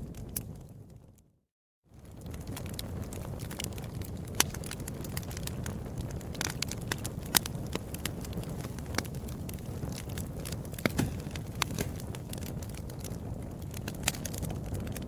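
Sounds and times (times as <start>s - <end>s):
fire crackling and popping: 0.0s - 1.3s, 1.9s - 15.0s
low rumble of flames: 0.0s - 15.0s.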